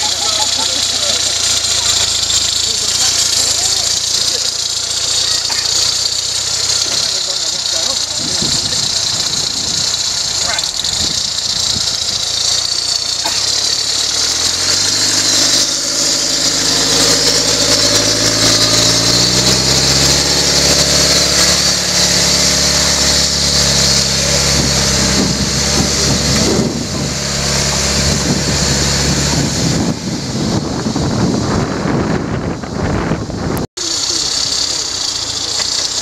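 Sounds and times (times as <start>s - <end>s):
off-road truck engine revving: 0.0s - 36.0s.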